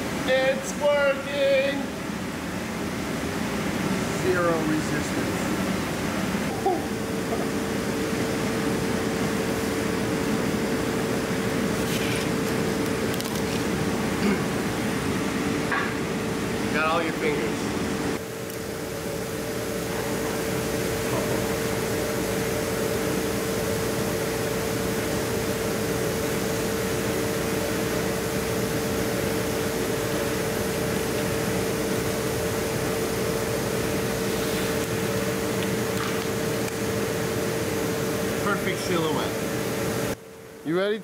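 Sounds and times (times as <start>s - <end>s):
mechanical whir and hum: 0.0s - 41.0s.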